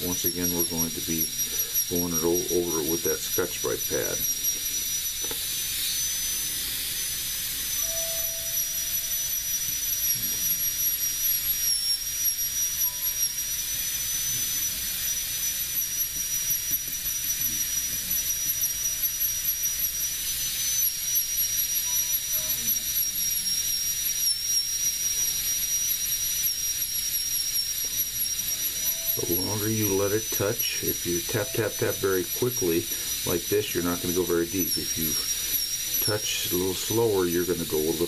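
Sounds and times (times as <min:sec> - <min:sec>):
high-pitched air-turbine tool whine: 0:00.0 - 0:38.0.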